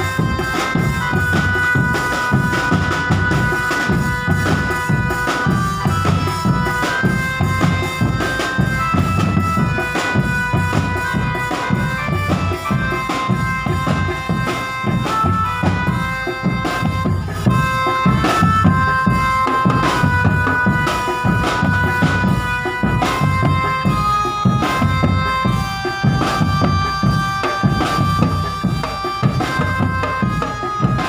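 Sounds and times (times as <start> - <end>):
drums beating fast rhythm: 0.0 - 31.0
wind instrument melody: 0.0 - 31.0.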